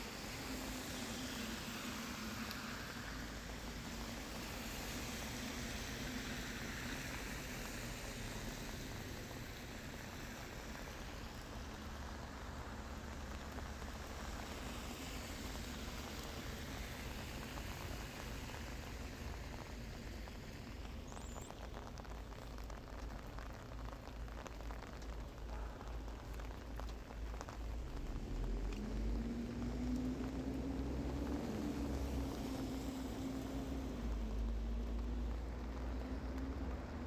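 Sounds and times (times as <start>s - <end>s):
rain falling: 0.0s - 37.0s
raindrops ticking: 0.0s - 37.0s.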